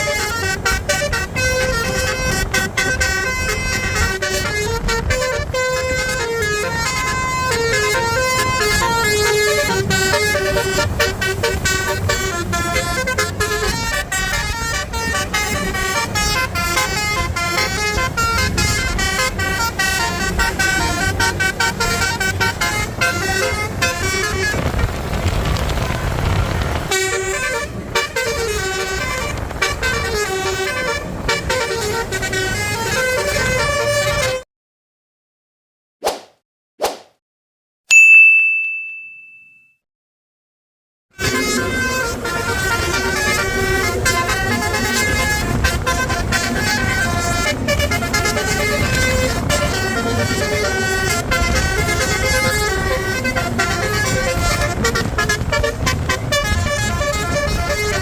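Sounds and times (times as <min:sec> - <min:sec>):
engine and road noise rumble: 0:00.0 - 0:34.4, 0:41.2 - 0:58.0
bus musical horn playing a tune: 0:00.0 - 0:34.5, 0:41.1 - 0:58.0.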